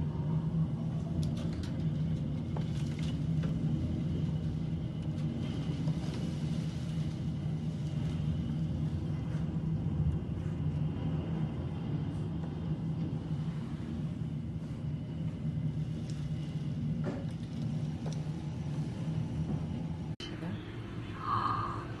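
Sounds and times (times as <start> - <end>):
storm wind on microphone: 0.0 - 20.2.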